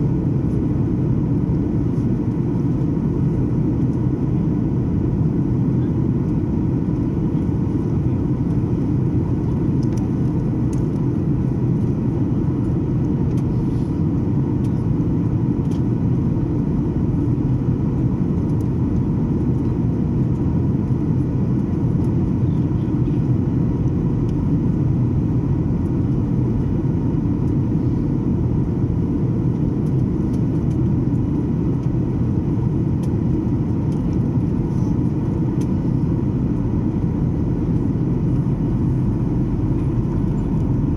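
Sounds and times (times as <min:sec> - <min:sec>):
airliner cabin engine roar: 0:00.0 - 0:40.9.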